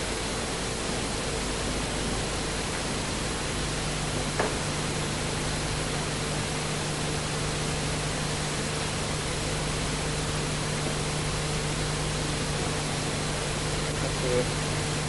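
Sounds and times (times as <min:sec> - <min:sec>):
tape hiss: 0:00.0 - 0:15.0.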